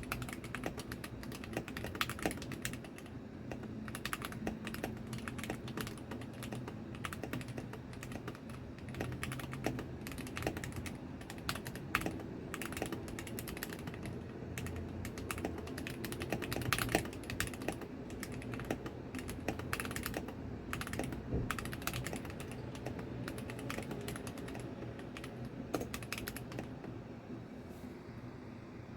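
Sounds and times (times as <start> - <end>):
mechanical keyboard typing: 0.0 - 26.9.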